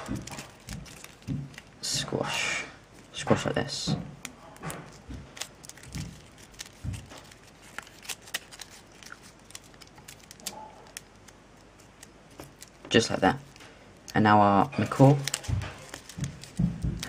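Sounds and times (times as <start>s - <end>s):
folded paper crackling: 0.0s - 17.0s.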